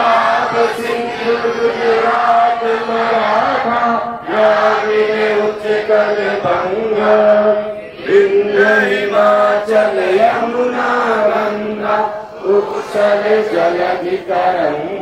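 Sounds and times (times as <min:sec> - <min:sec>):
crowd singing in unison: 0:00.0 - 0:15.0.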